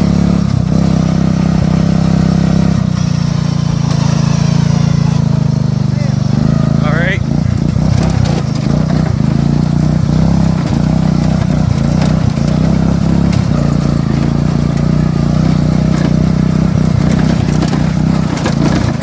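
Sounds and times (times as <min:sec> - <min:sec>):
riding lawn mower engine: 0:00.0 - 0:19.0.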